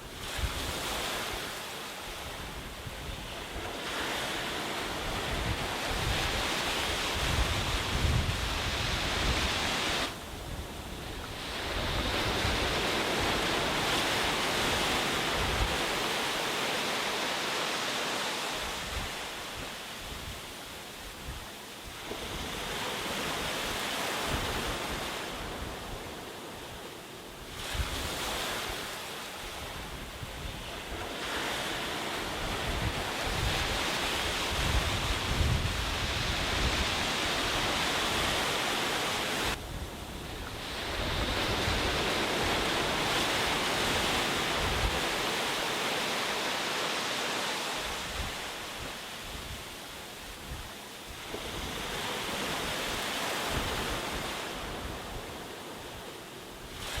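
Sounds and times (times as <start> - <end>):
sea waves breaking on a beach: 0.0 - 57.0.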